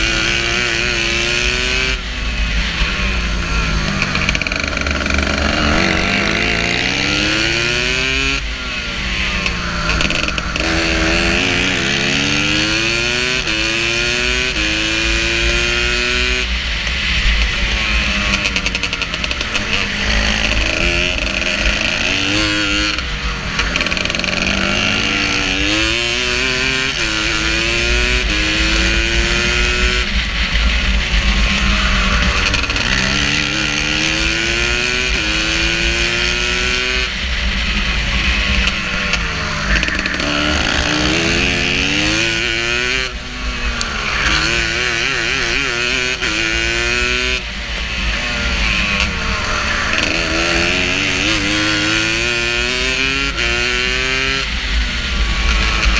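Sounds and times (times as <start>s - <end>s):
go-kart engine revving: 0.0s - 55.9s.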